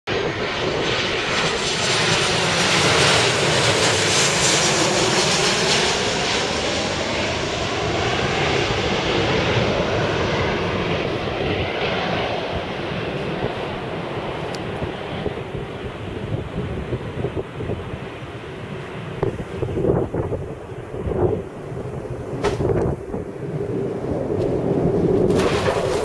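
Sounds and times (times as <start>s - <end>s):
jet engines rushing: 0.1s - 26.0s.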